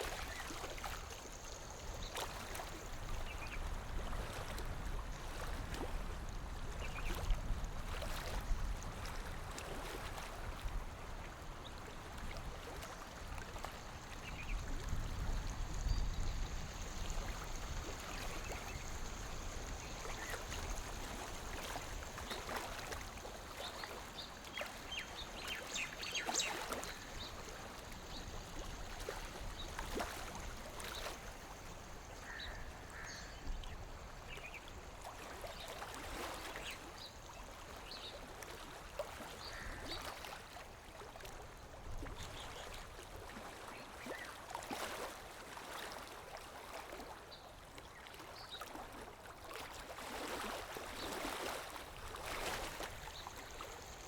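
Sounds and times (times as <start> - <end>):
lake water lapping on shore: 0.0 - 54.0.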